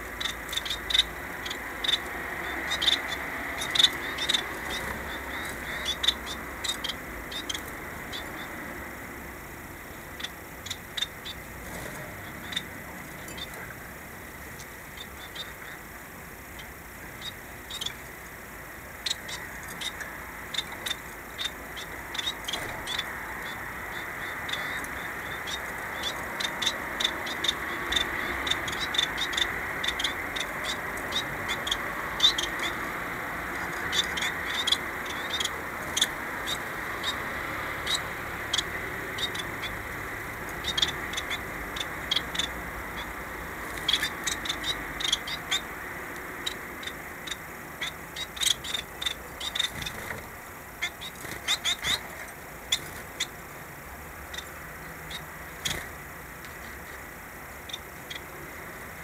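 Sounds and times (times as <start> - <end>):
finches chirping: 0.0 - 59.0
steady background noise: 0.0 - 59.0.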